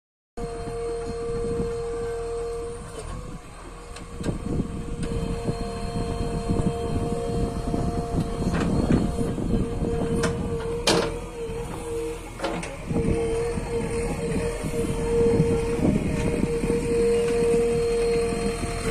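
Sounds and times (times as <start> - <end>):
diesel engine running under load: 0.4 - 18.9
hydraulic whine: 0.4 - 18.9.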